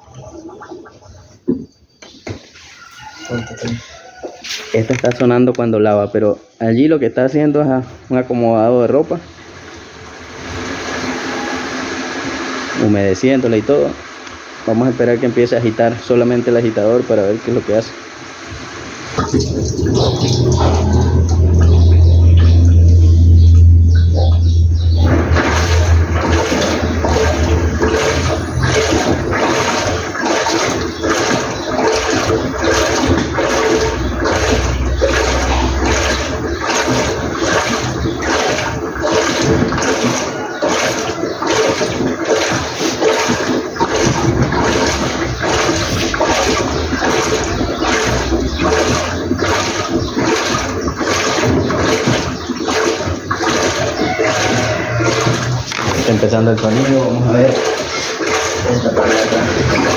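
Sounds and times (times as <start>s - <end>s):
washing machine agitating: 0.0s - 6.1s, 7.7s - 59.9s.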